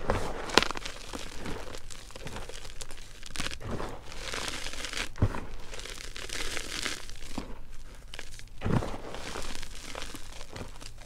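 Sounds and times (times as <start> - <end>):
hands crunching powdery chalk: 0.0 - 11.0.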